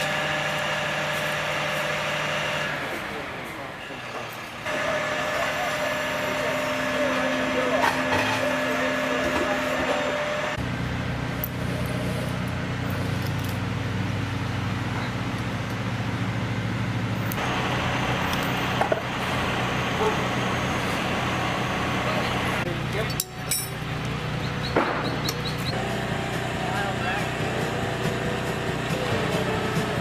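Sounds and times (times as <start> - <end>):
heavy machine engine humming: 0.0 - 30.0.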